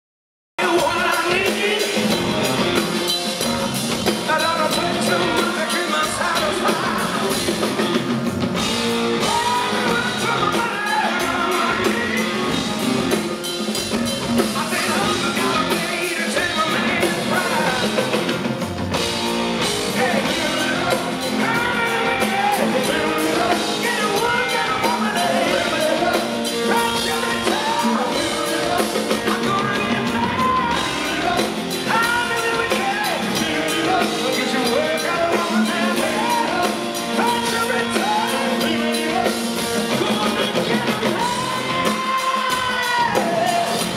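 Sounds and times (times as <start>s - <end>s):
man singing: 0.6s - 2.8s, 4.0s - 8.0s, 9.0s - 13.4s, 14.4s - 43.9s
rock band playing live: 0.6s - 43.9s.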